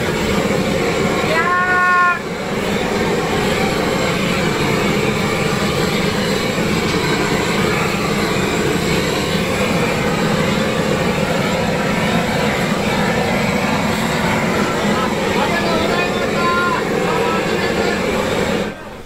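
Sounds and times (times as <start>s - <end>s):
blowtorch flame rushing: 0.0s - 19.0s.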